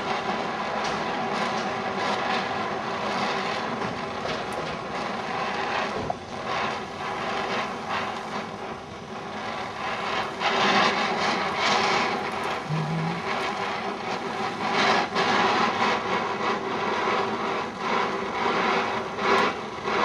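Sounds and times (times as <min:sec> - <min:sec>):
sparks crackling: 0:00.0 - 0:20.0
torch flame hissing: 0:00.0 - 0:20.0.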